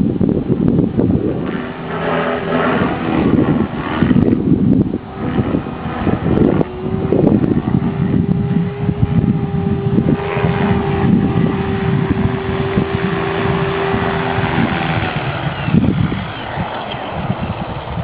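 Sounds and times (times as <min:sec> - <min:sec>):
helicopter rumble: 0:00.0 - 0:18.0
steady whine: 0:00.0 - 0:18.0.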